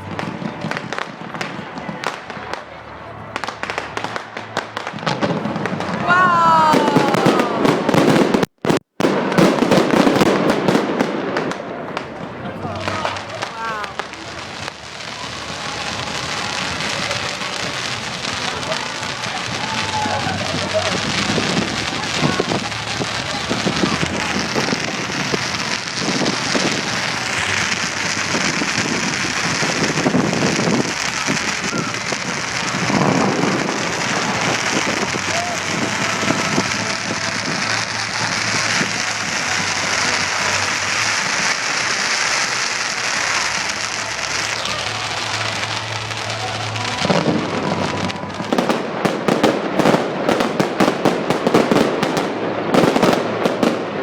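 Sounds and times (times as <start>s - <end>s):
fireworks crackling: 0.0s - 54.0s
steady noisy din: 0.0s - 54.0s.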